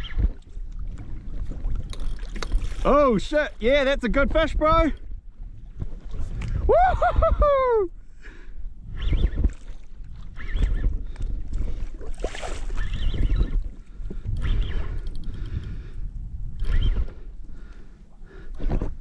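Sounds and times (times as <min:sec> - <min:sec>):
water lapping against kayak: 0:00.0 - 0:19.0
wind rumbling on microphone: 0:00.0 - 0:19.0.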